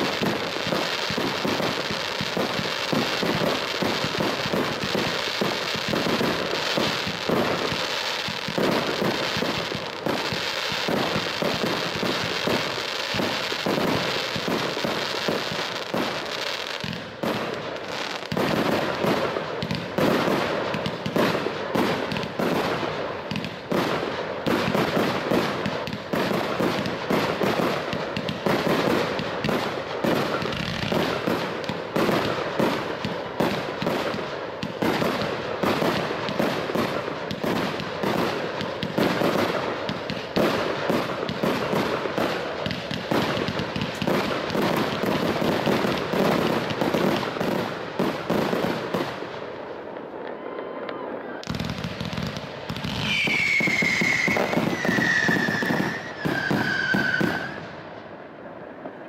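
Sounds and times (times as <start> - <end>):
fireworks bursts and bangs: 0.0 - 59.0.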